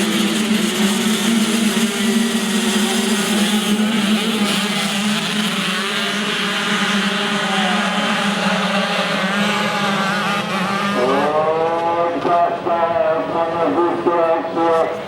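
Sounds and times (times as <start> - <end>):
motocross motorcycle engines: 0.0 - 15.0.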